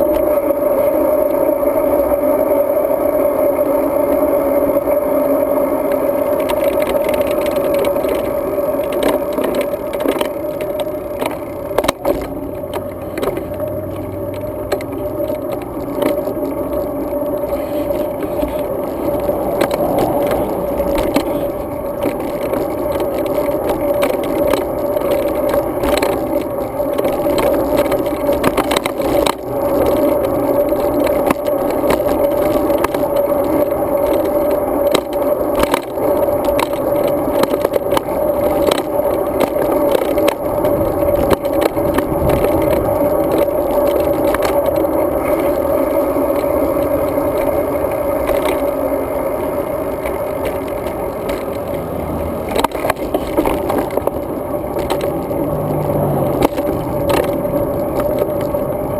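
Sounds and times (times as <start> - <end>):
bike rolling over pavement: 0.0 - 58.9
small clicks and rattles: 5.7 - 58.9.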